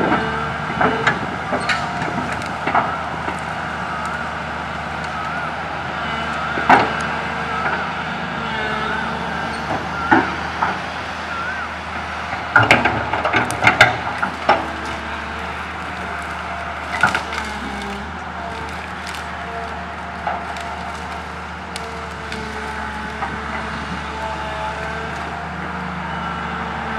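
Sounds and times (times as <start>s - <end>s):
tree branches cracking and snapping: 0.0s - 7.8s, 11.8s - 26.0s
excavator engine running: 0.0s - 26.9s.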